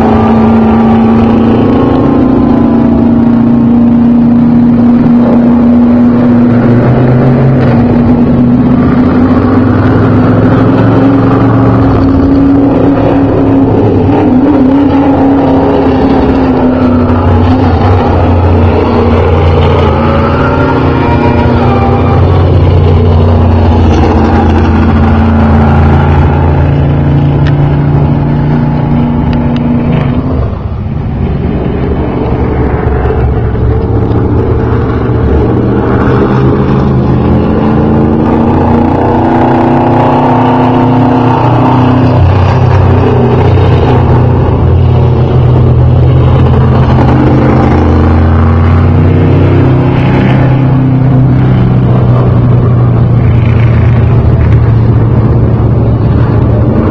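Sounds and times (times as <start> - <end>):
race car engine running hard: 0.0 - 56.9.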